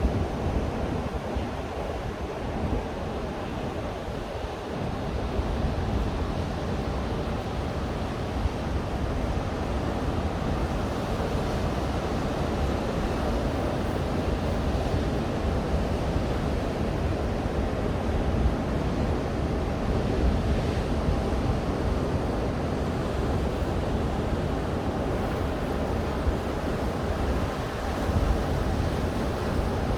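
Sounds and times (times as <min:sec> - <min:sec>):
surf waves breaking: 0:00.0 - 0:29.9.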